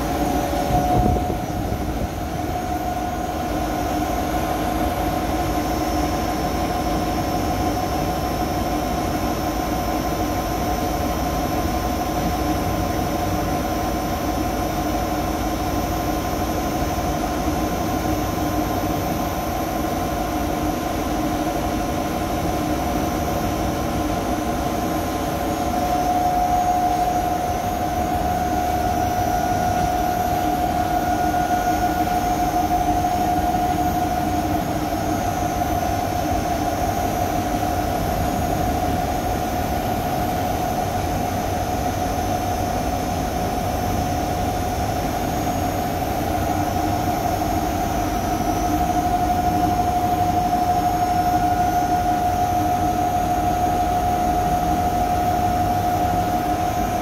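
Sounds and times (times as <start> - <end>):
generator low drone: 0.0 - 57.0
generator mid-pitched whine: 0.0 - 57.0.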